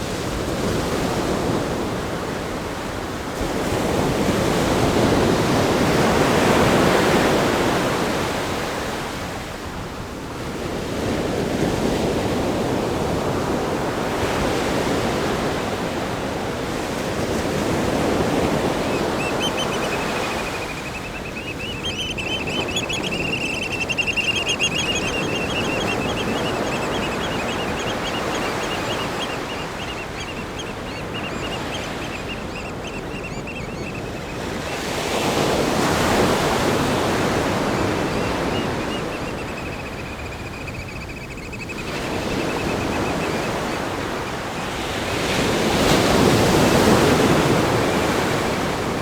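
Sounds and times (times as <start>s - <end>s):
ocean waves breaking on rocks: 0.0s - 33.6s, 34.2s - 39.4s, 41.9s - 49.0s.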